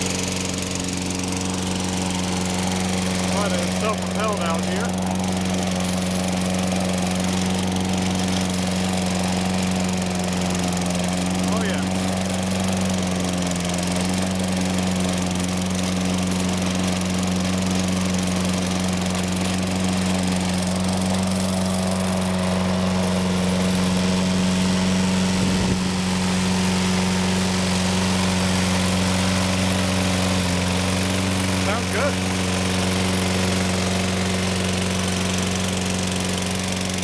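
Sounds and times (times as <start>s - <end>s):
lawn mower engine running: 0.0s - 37.0s.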